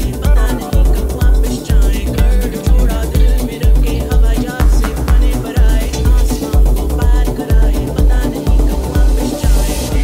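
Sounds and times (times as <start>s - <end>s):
afro house dance music: 0.0s - 10.0s
steady kick drum: 0.0s - 10.0s.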